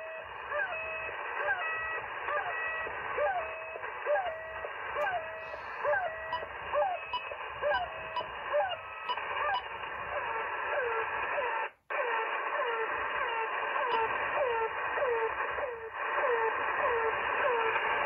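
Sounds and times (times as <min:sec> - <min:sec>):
radio band hiss: 0:00.0 - 0:18.0.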